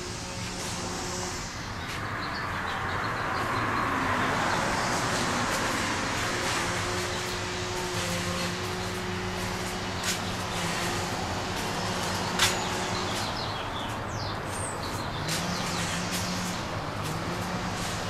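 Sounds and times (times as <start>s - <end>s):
background hum of traffic: 0.0s - 18.0s.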